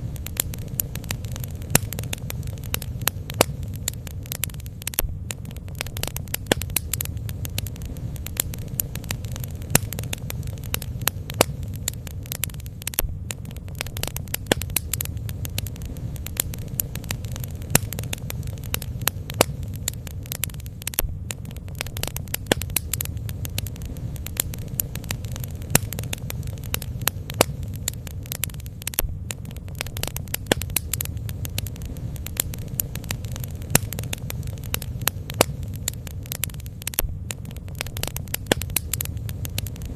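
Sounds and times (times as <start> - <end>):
bonfire crackling and popping: 0.0 - 39.9
fire low rumble: 0.0 - 39.9.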